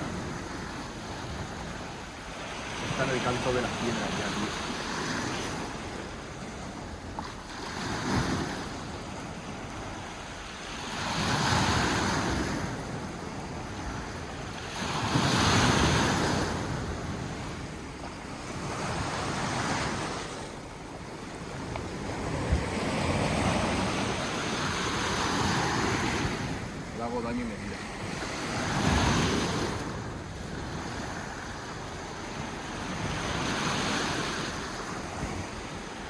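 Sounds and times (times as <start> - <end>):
waves breaking against rocks: 0.0 - 36.0.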